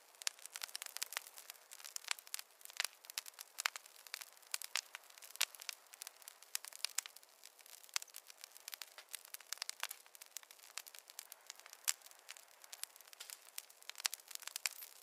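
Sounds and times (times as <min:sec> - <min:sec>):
campfire crackling and popping: 0:00.0 - 0:15.0
soft steady fire hiss: 0:00.0 - 0:15.0.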